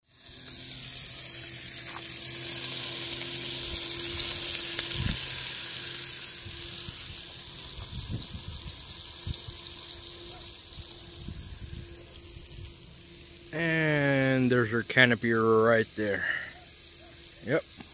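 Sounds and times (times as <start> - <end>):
food sizzling in frying pans: 0.0 - 17.9.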